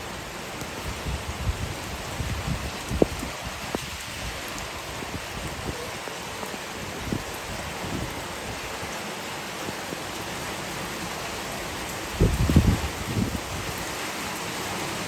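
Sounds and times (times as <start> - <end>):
rain falling on plants: 0.0 - 15.0.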